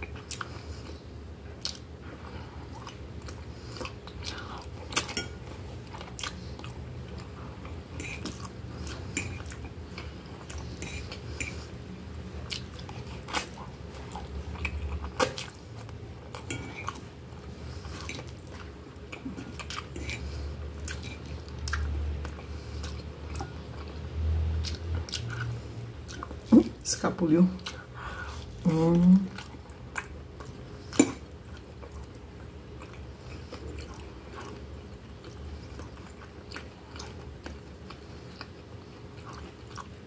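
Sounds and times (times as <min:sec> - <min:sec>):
person chewing noodles: 0:00.0 - 0:26.8, 0:27.6 - 0:40.0.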